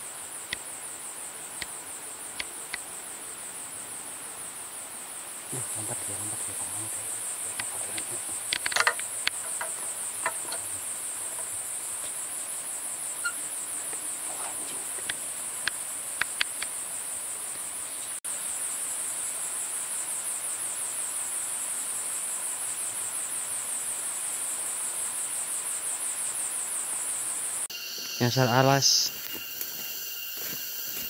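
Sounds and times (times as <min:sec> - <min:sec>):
insect chorus buzzing: 0:00.0 - 0:31.0.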